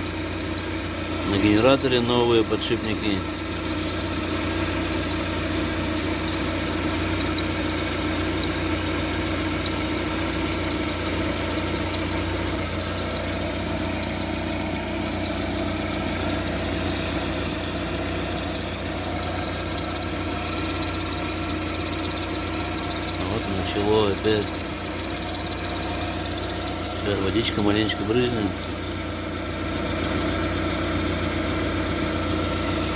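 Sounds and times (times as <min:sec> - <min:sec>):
car engine idling: 0:00.0 - 0:32.9
drive belt chirping squeal: 0:00.0 - 0:32.9.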